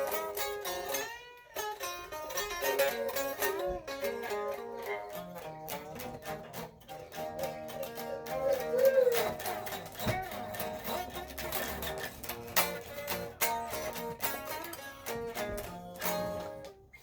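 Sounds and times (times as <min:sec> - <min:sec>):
instrumental music with steady beat: 0:00.0 - 0:17.0.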